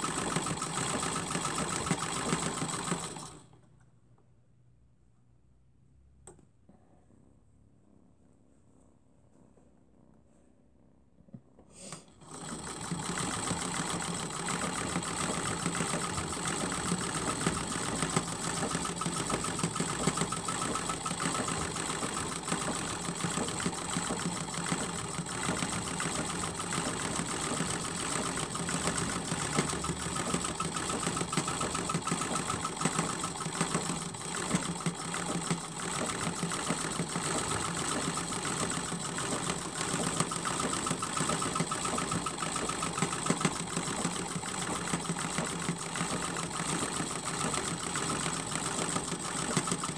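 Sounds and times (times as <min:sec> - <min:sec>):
sewing machine running: 0:00.0 - 0:03.6, 0:12.1 - 0:49.9.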